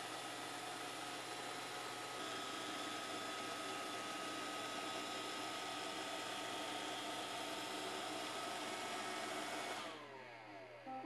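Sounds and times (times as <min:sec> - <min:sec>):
robot vacuum motors whirring: 0:00.2 - 0:10.8.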